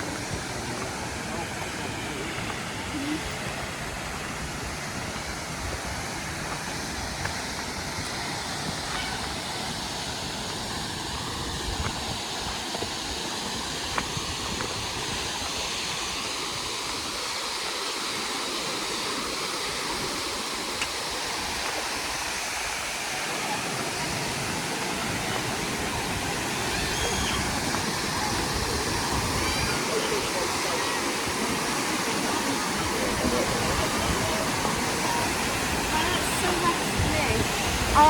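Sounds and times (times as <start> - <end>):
waterfall and stream rushing: 0.0 - 38.0.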